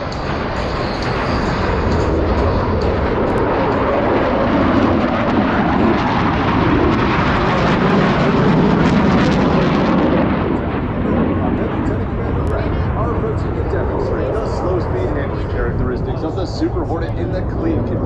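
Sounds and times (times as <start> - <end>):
jet planes flying past: 0.0 - 18.0.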